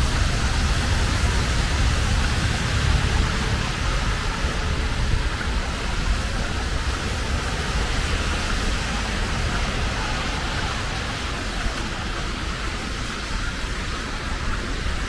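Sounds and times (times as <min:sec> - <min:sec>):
heavy rain on an umbrella: 0:00.0 - 0:15.0.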